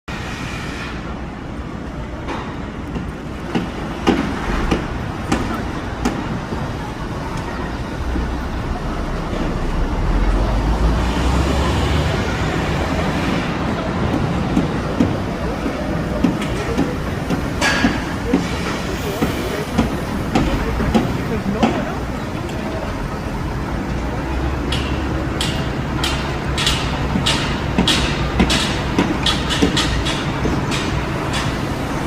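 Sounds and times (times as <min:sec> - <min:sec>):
rumble of passing vehicles: 0:00.1 - 0:32.0.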